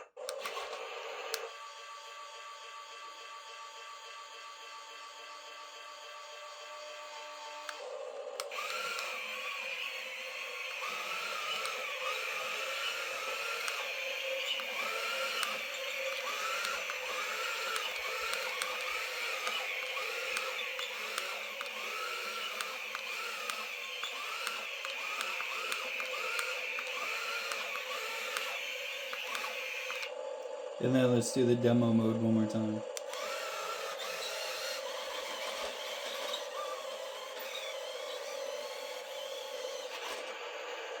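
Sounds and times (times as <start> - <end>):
toy tank motor whine: 0.0 - 31.5, 32.8 - 41.0.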